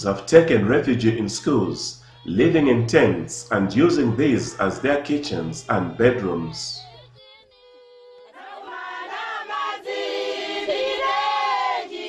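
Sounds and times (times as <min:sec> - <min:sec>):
choir singing: 0:00.4 - 0:12.0.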